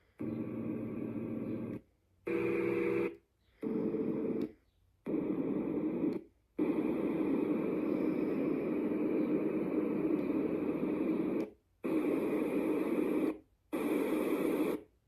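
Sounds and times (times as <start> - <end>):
white noise machine: 0.0 - 4.5, 5.1 - 14.8.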